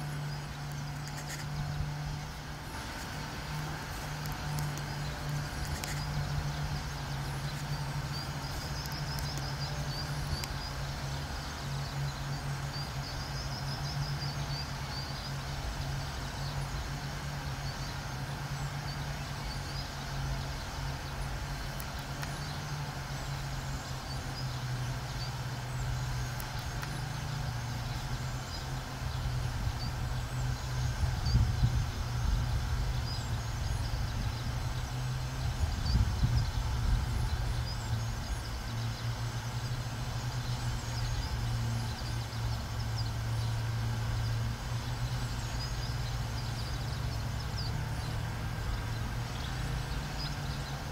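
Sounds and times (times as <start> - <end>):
distant traffic hum: 0.0 - 50.9
songbirds singing: 0.0 - 50.9.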